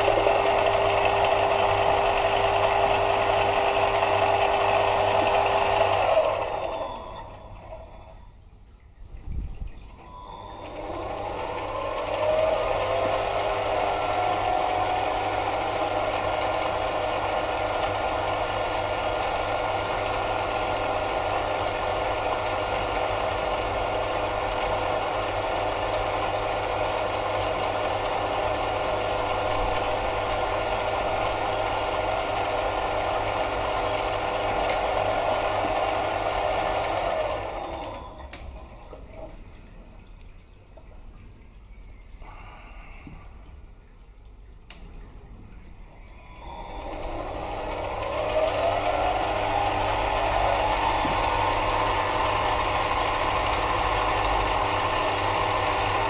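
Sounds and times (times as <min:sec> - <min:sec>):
lathe motor whine: 0:00.0 - 0:08.3, 0:10.0 - 0:38.9, 0:45.9 - 0:56.0.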